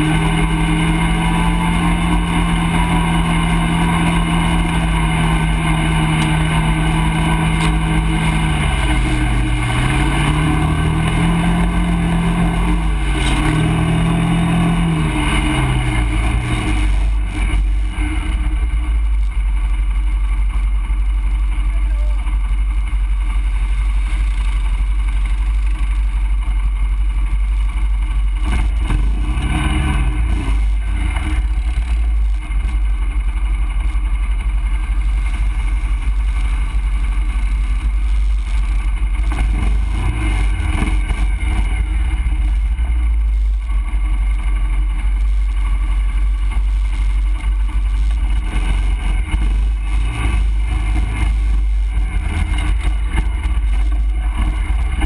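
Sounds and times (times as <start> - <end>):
quad engine rumbling: 0.0 - 55.0.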